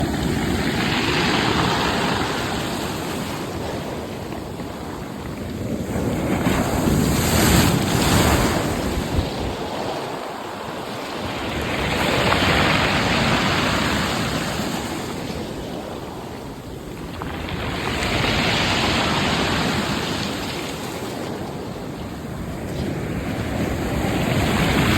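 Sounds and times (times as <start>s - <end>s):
sea waves breaking: 0.0s - 24.9s
wind buffeting microphone: 0.0s - 24.9s.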